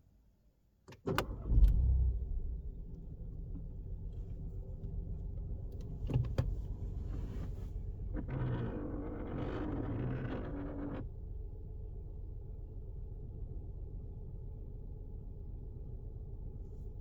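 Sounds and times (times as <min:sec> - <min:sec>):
car engine starting and idling: 0:00.9 - 0:17.0.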